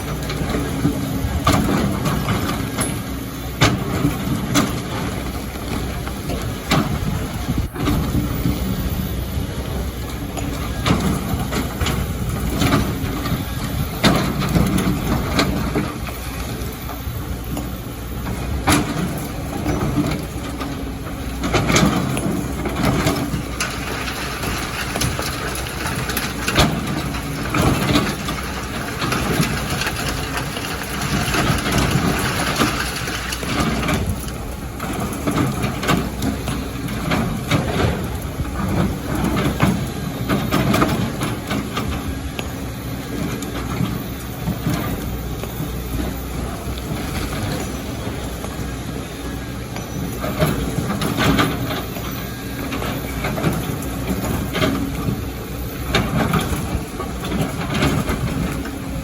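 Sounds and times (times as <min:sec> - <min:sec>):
excavator diesel engine: 0:00.0 - 0:59.0
rock and sand clattering: 0:00.0 - 0:59.0.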